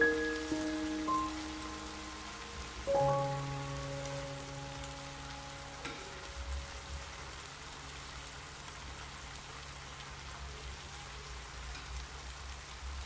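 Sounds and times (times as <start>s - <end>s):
stew sizzling in a frying pan: 0.0s - 13.0s.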